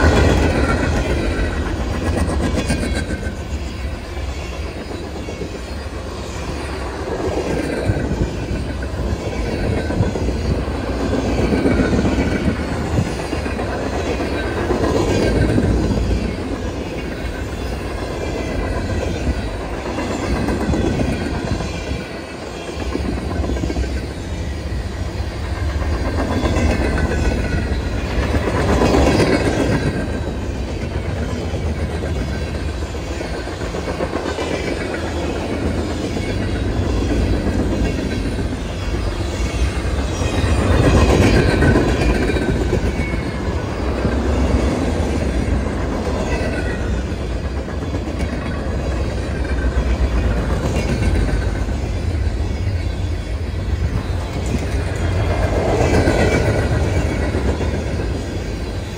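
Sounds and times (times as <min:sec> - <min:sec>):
freight cars rumbling on rails: 0:00.0 - 0:58.9.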